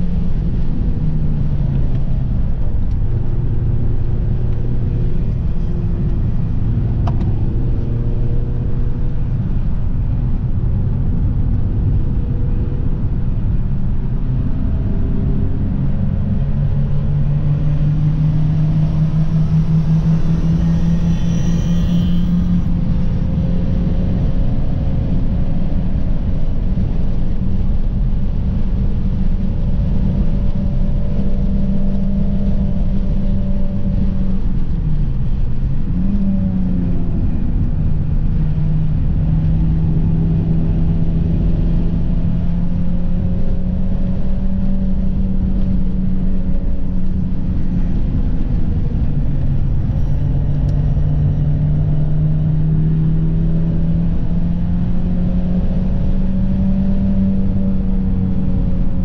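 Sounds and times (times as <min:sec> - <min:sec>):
car engine droning: 0:00.0 - 0:59.0
road and wind noise: 0:00.0 - 0:59.0.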